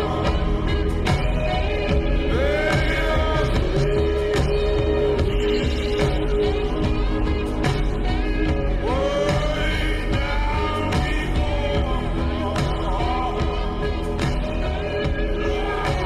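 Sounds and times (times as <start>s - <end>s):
song with sung melody and beat: 0.0s - 16.0s.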